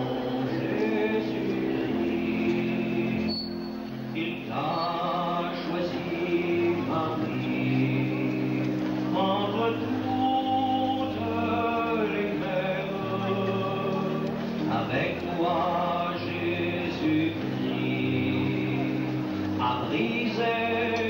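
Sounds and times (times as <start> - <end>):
male choir singing a slow hymn: 0.0 - 21.0.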